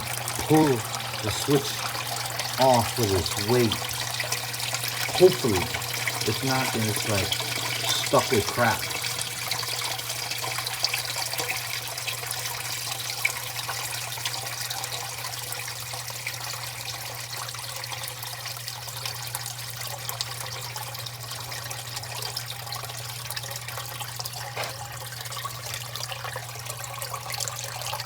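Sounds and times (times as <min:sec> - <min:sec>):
churning trickling water: 0:00.0 - 0:28.0.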